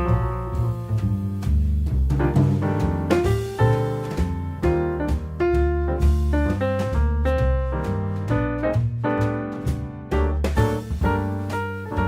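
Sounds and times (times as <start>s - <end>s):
light jazz piano music: 0.0s - 12.0s.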